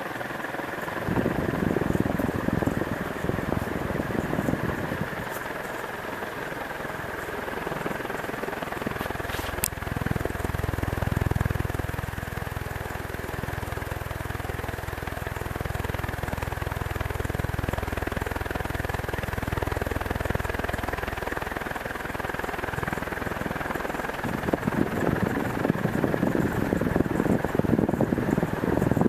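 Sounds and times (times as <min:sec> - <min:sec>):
ceiling fan running: 0:00.0 - 0:29.0.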